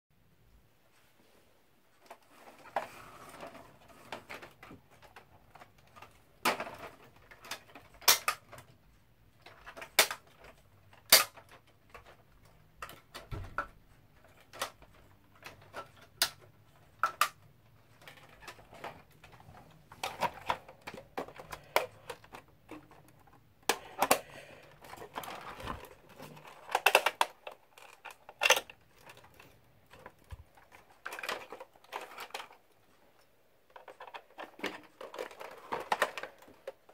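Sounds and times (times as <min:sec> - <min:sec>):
plastic toy parts clicking: 0:04.0 - 0:08.8, 0:09.4 - 0:32.6, 0:33.7 - 0:36.9.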